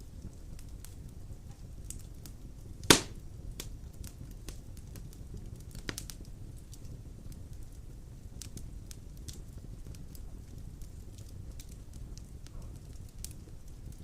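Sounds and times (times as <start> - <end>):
fire popping: 0.0 - 14.0
fire rumbling: 0.0 - 14.0
wood fire crackling: 0.0 - 14.0.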